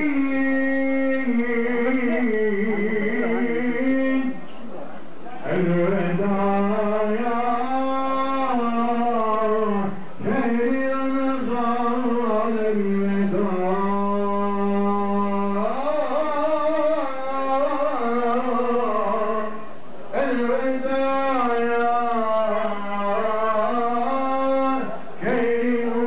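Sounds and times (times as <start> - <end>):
man chanting: 0.0 - 4.5, 5.3 - 26.0.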